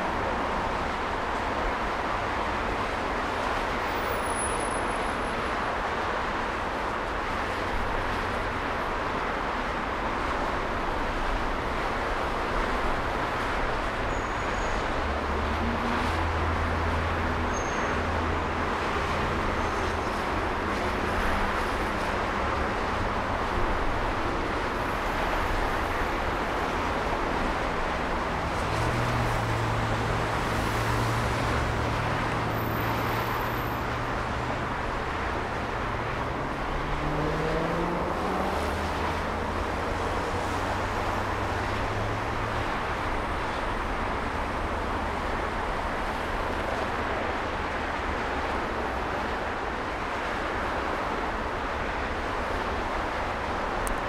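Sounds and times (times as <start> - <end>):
freeway traffic: 0.0 - 54.0.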